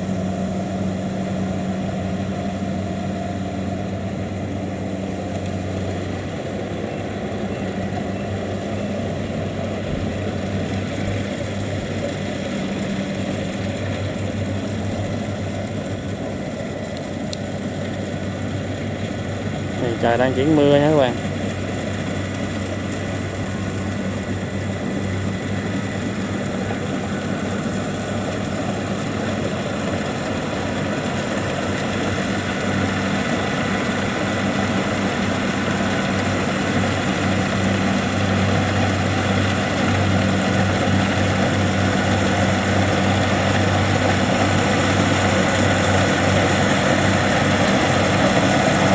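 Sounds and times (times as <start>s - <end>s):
combine harvester engine running: 0.0s - 48.9s.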